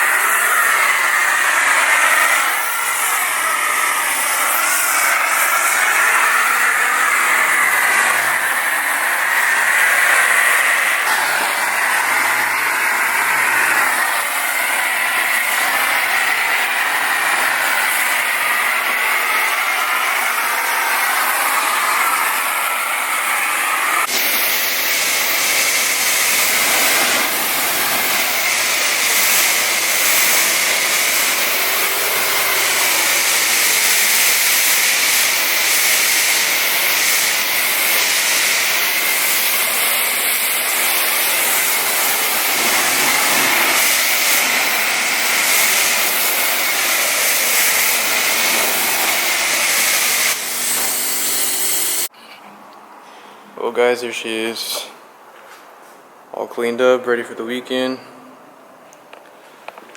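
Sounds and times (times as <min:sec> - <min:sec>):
pressure washer spray hissing: 0:00.0 - 0:52.1.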